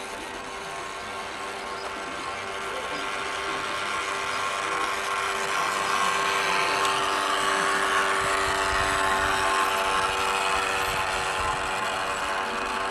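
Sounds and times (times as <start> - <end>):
model boat electric motor whine: 0.0 - 12.9.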